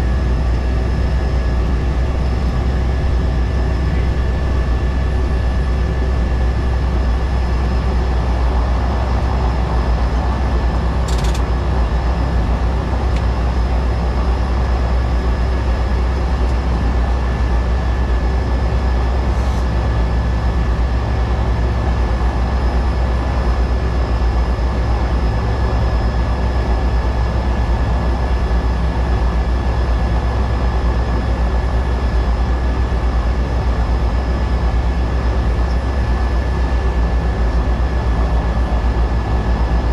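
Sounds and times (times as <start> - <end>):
high engine whine: 0.0 - 39.9
propeller plane engine drone: 0.0 - 39.9.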